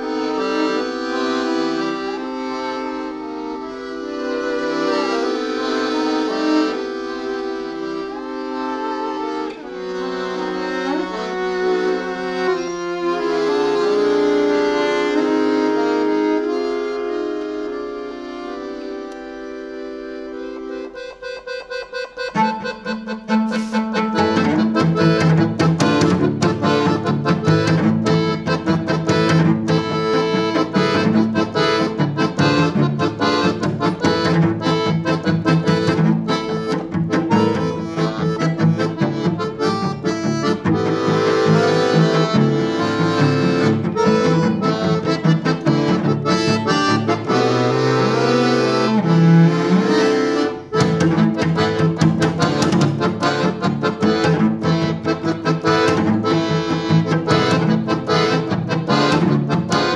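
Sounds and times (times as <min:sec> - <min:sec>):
cello: 0:00.0 - 0:20.8, 0:22.3 - 0:59.9
accordion: 0:00.0 - 0:59.9.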